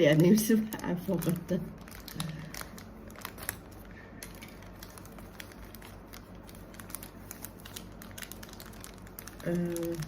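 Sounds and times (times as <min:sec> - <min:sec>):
steady low hum: 0:00.0 - 0:10.0
packaging rustling: 0:01.0 - 0:10.0.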